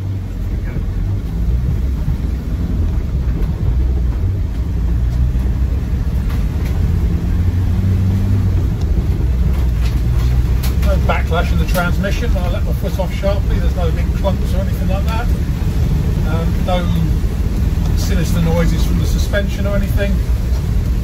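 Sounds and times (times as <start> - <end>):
diesel engine drone: 0.0 - 21.0
road noise: 0.0 - 21.0.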